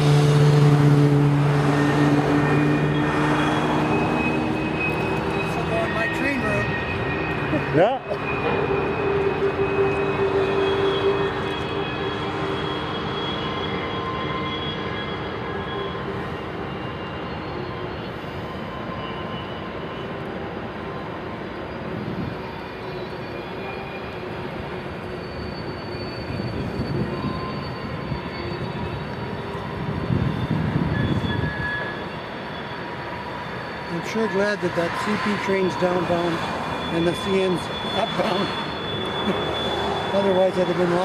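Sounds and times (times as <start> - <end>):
high wheel squeals: 0.0 - 41.0
rail cars rumbling: 0.0 - 41.0.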